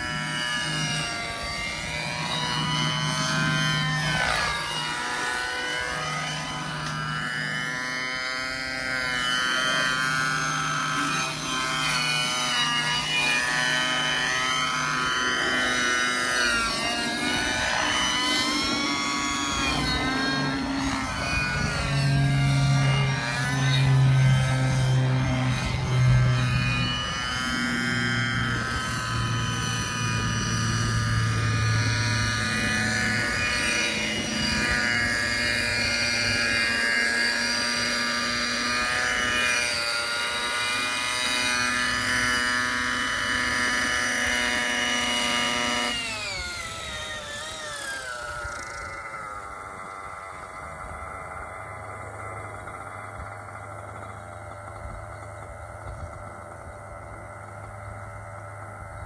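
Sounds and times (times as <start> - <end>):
model helicopter engine and rotor: 0.0 - 59.0.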